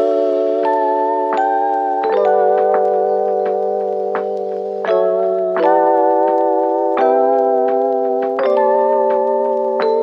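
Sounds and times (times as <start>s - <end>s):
sustained keyboard chords: 0.0s - 10.0s.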